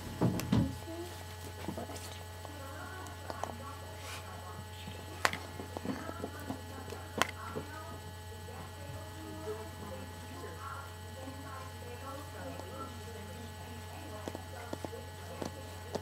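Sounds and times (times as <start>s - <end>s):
low electrical hum: 0.0s - 16.0s
faint background voices: 0.6s - 16.0s.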